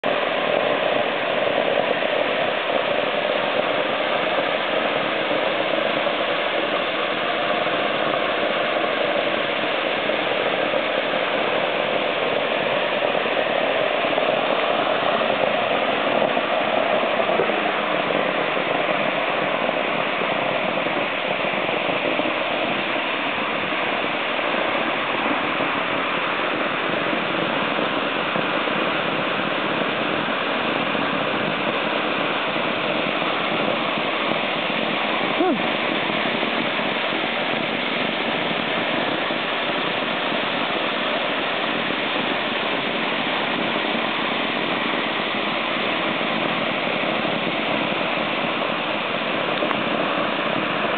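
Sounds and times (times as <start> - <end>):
water jet rushing from hydrant: 0.0 - 50.9.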